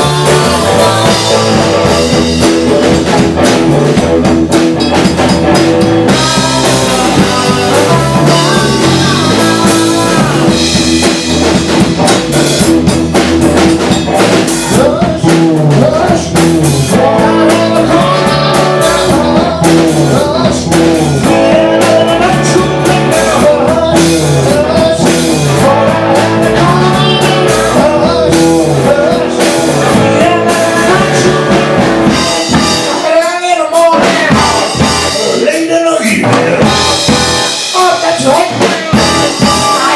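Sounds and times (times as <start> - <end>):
person singing: 0.0 - 4.0, 6.0 - 11.3, 14.5 - 39.9
rock band playing: 0.0 - 39.9.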